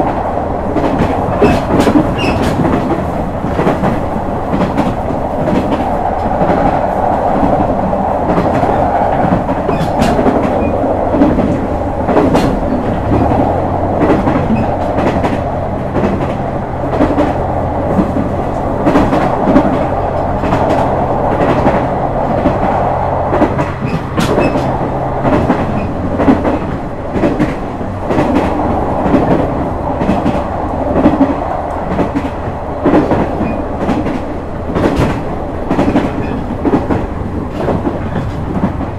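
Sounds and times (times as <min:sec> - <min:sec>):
train wheels clicking over rail joints: 0:00.0 - 0:06.8, 0:08.2 - 0:38.9.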